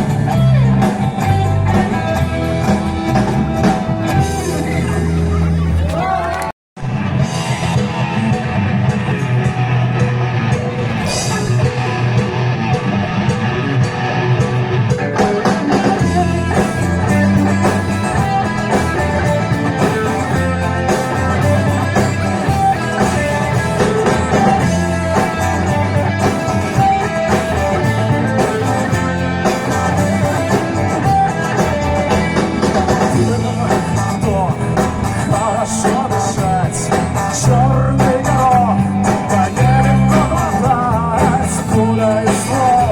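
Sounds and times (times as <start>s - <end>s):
bass and drums: 0.0s - 42.9s
electric guitar: 0.0s - 42.9s.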